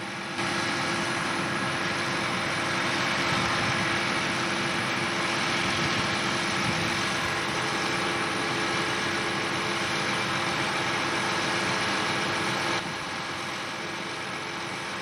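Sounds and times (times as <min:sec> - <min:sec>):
tractor diesel engines droning: 0:00.0 - 0:15.0.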